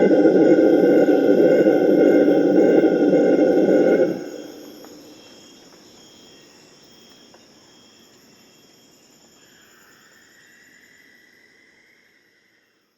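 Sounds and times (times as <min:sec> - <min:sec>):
insects chirping chorus: 0:00.0 - 0:12.9.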